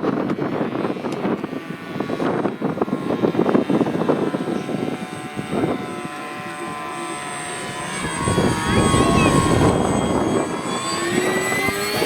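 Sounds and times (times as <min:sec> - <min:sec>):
model airplane motor whining: 0:00.0 - 0:12.0.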